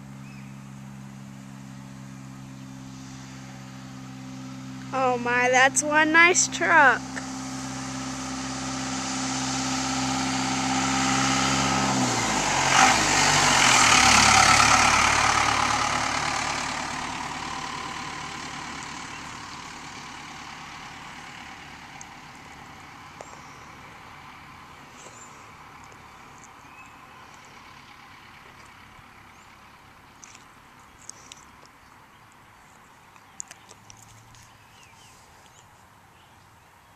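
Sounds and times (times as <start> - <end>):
diesel truck driving by: 0.0 - 36.6.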